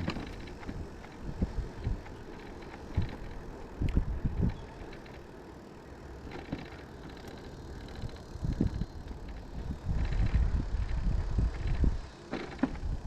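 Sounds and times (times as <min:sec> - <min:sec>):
steady rush of bike riding: 0:00.0 - 0:13.0.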